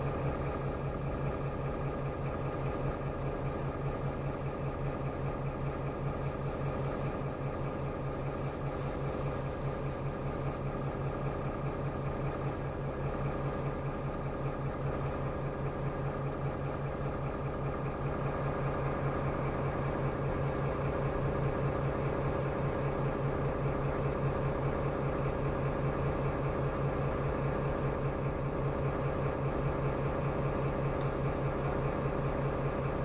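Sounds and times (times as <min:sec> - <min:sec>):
bus engine humming: 0:00.0 - 0:33.0.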